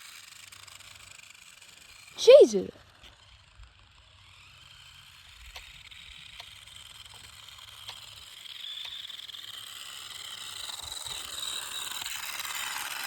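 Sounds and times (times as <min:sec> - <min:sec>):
toy car electric motor whine: 0:00.0 - 0:02.1, 0:02.9 - 0:13.0.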